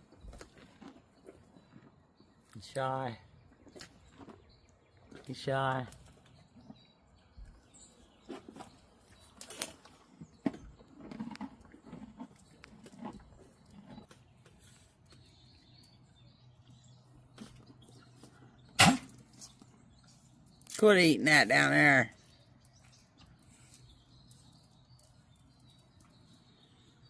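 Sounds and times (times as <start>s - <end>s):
horse moving and eating: 0.0s - 27.0s.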